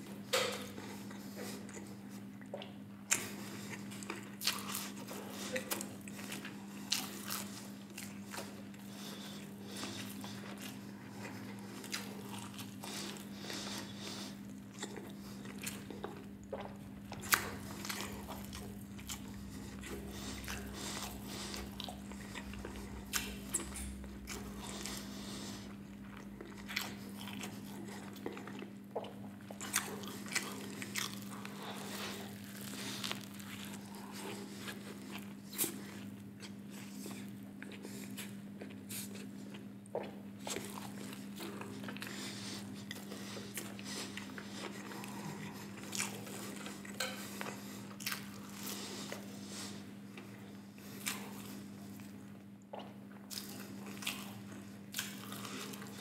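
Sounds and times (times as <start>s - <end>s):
steady low hum: 0.0s - 56.0s
crunchy chewing: 0.3s - 56.0s.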